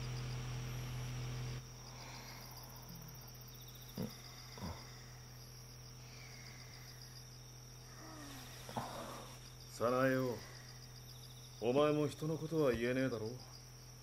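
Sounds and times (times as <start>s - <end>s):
crickets chirping: 0.0s - 14.0s
electric fan humming: 0.0s - 14.0s.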